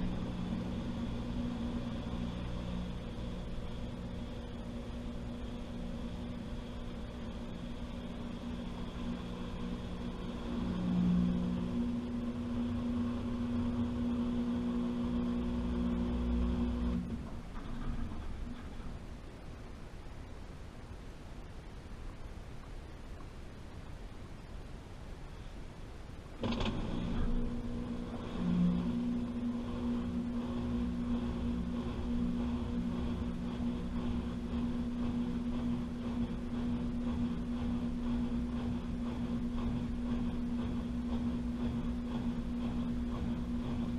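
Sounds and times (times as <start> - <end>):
washing machine motor hum: 0.0 - 43.9.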